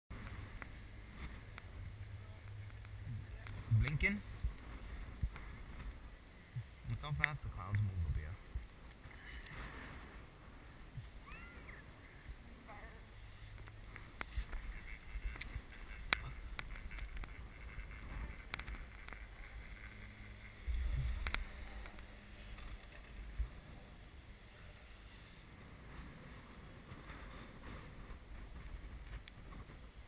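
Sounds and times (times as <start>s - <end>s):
chairlift low rumble: 0.1s - 30.0s
wind on microphone: 0.1s - 30.0s.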